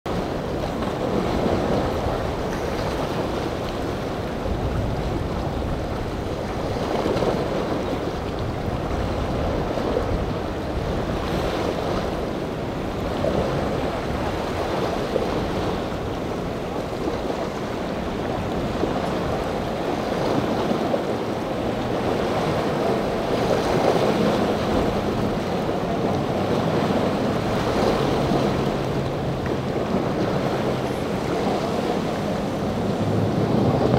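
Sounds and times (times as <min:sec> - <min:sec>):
outboard boat engine humming: 0:00.0 - 0:33.9
surf breaking: 0:00.1 - 0:33.9
wind buffeting microphone: 0:00.1 - 0:33.9.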